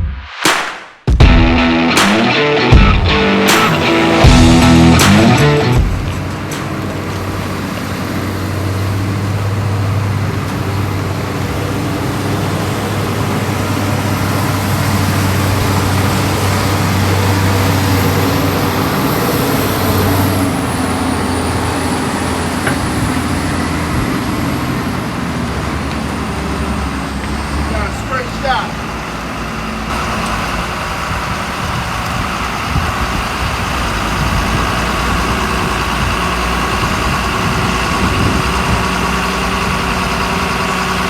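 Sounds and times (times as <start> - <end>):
diesel engine running: 1.2 - 41.0.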